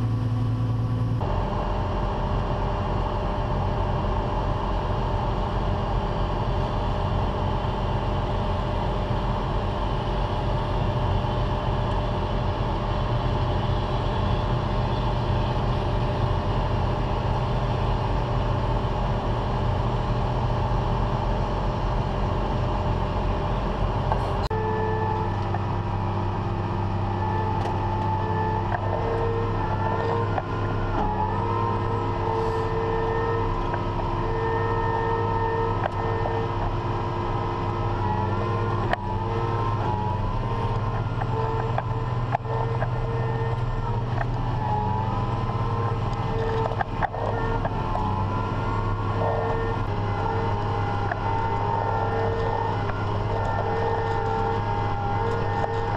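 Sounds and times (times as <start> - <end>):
heavy farm machinery running: 0.0 - 55.9
machine whine: 0.0 - 55.9.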